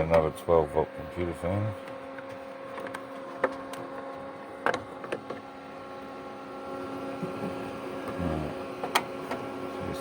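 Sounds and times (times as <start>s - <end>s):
small electric fans humming: 0.0s - 10.0s.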